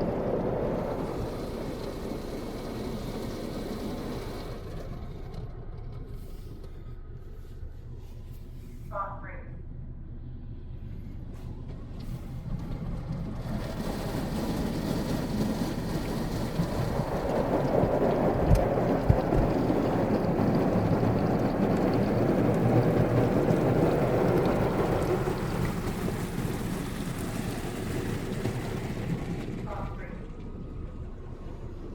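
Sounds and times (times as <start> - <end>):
car wash machine rushing and drumming: 0.0 - 7.2, 10.8 - 31.9.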